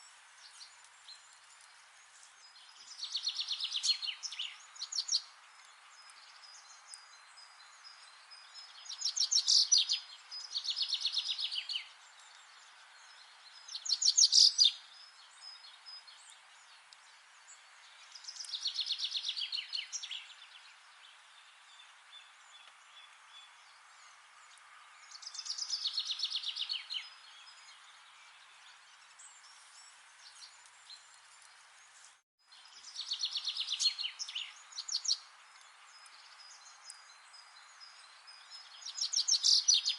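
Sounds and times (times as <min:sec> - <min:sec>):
forest ambience hiss: 0:00.0 - 0:39.9.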